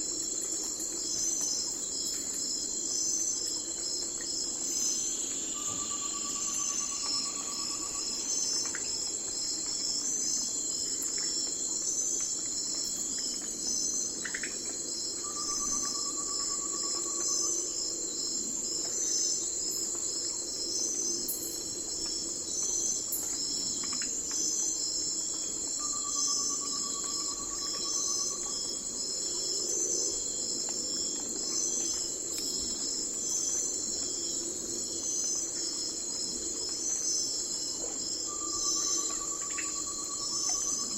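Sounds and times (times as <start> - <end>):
crickets and insects chorus: 0.0 - 40.9
lower insect trill: 0.0 - 40.9.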